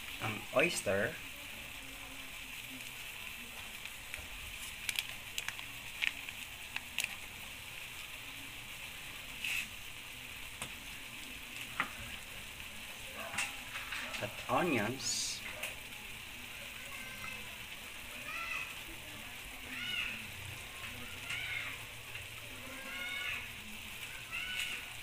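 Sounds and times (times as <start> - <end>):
pork sizzling in a wok: 0.0 - 25.0.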